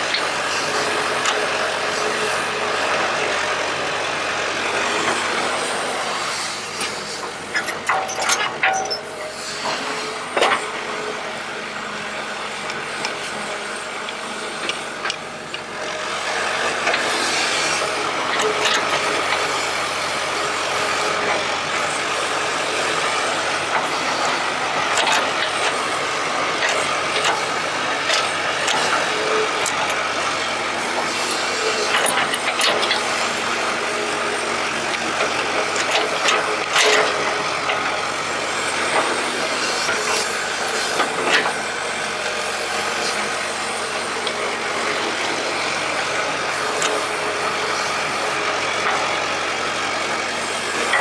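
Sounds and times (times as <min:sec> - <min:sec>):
excavator machine noise: 0:00.0 - 0:51.0.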